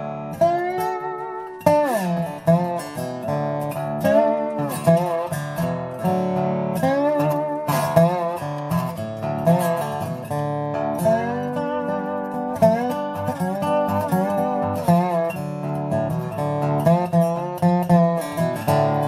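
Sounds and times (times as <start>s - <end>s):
acoustic guitar blues instrumental: 0.0s - 19.0s.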